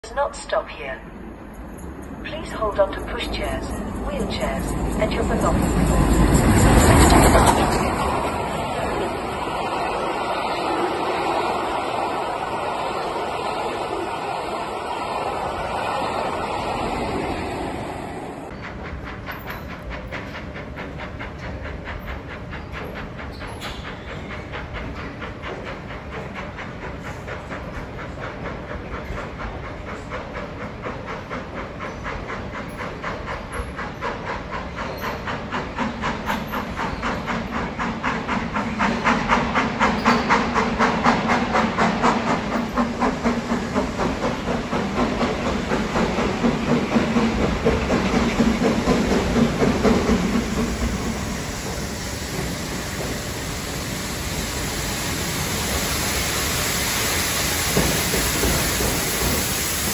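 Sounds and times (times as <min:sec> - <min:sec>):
steam locomotive exhaust beating: 0:01.3 - 0:59.9
steam hiss: 0:04.1 - 0:59.9.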